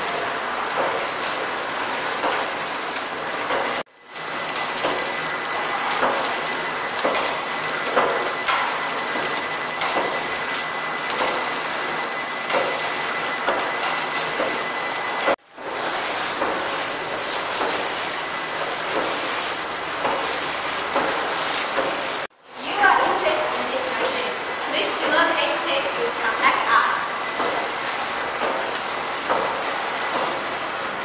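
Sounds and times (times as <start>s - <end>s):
machine clacks: 0.0s - 31.0s
packing machine whirring: 0.0s - 31.0s.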